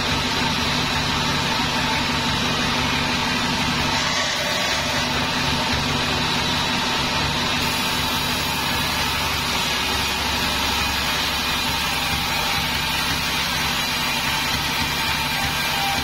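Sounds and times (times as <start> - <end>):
band saw cutting wood: 0.0 - 16.0.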